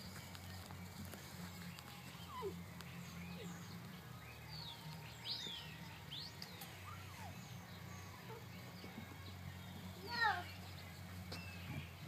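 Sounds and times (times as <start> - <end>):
birds chirping: 0.0 - 12.0
low steady hum: 0.0 - 12.0.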